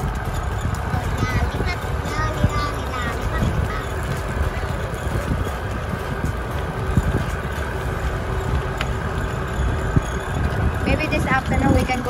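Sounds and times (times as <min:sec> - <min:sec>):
tyres rumbling on gravel: 0:00.0 - 0:12.0
wind on microphone: 0:00.0 - 0:12.0.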